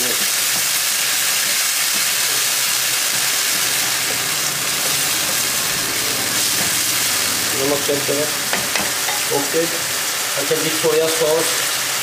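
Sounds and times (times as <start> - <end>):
spatula stirring: 0.0 - 9.6
liquid boiling and hissing: 0.0 - 12.0
vegetables sizzling in a wok: 0.0 - 12.0.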